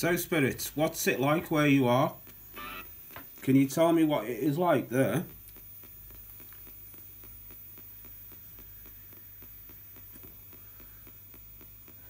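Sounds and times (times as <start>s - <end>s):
radio static hiss: 0.0s - 12.0s
rapid scanner clicks: 0.0s - 12.0s.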